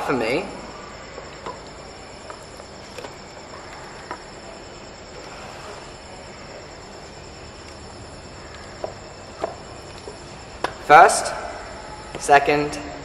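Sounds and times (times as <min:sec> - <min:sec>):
high-pitched whine: 0:00.0 - 0:13.0
steady hiss: 0:00.0 - 0:13.0.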